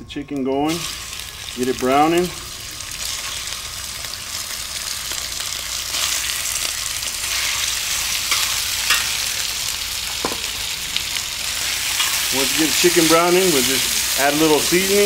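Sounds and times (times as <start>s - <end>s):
chicken sizzling in hot oil: 0.7s - 15.0s.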